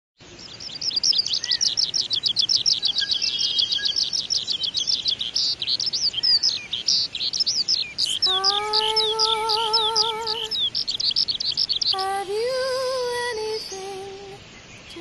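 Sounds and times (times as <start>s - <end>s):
skylark singing: 0.4s - 14.0s.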